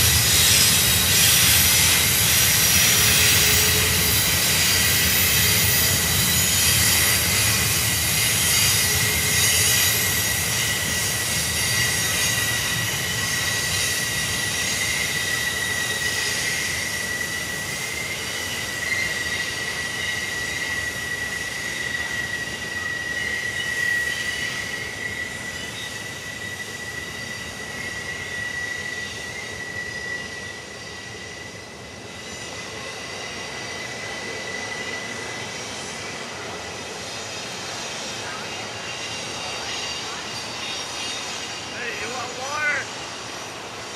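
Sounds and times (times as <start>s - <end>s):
rolling rumble of train: 0.0s - 43.9s
train wheels squealing: 0.0s - 43.9s.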